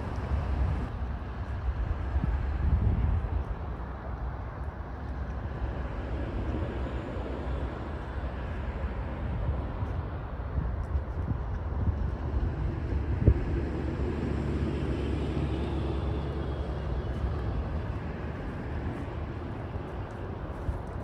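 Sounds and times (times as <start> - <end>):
distant engine hum: 0.0 - 21.0
low steady rumble: 0.0 - 21.0.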